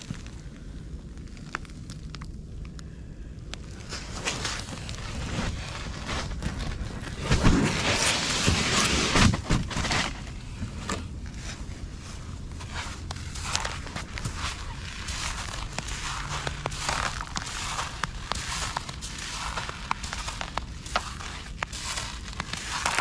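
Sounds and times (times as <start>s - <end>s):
crunching footsteps in snow: 3.6s - 23.0s
raft fabric scraping on snow: 3.9s - 10.7s, 11.3s - 23.0s.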